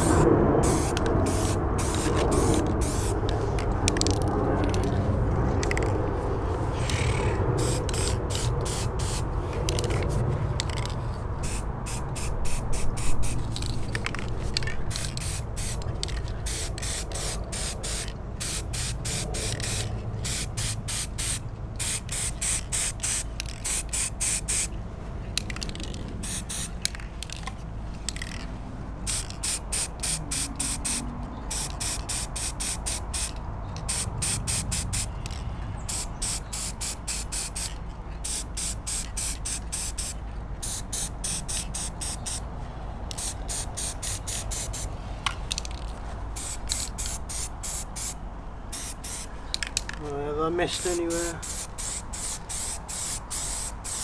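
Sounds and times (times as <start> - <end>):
spray can hissing: 0.0 - 4.2, 6.8 - 24.7, 25.6 - 27.4, 29.1 - 35.1, 35.9 - 42.4, 43.1 - 44.9, 46.4 - 50.0, 50.7 - 54.0.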